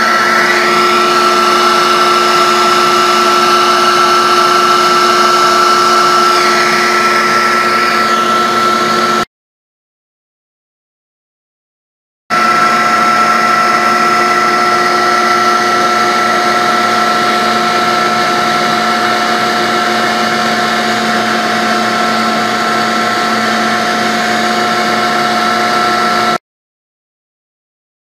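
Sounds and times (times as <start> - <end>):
router spindle whine: 0.0 - 9.3, 12.3 - 26.4.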